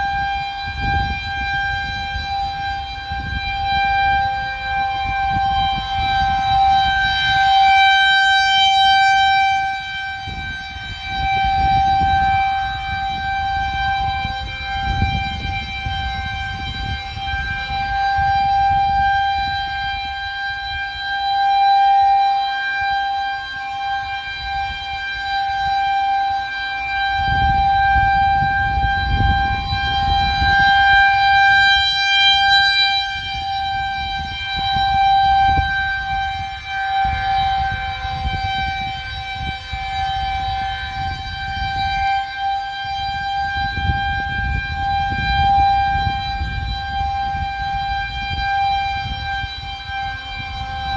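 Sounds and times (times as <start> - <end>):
rotating warning siren: 0.0 - 50.9.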